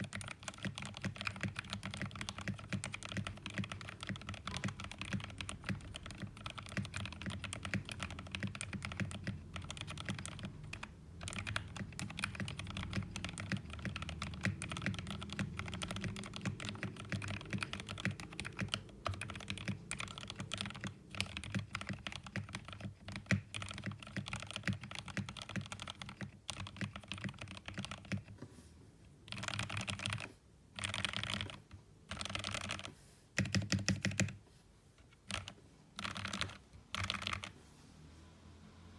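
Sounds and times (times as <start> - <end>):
mechanical keyboard typing: 0.0 - 28.4, 29.3 - 34.4, 35.0 - 37.6.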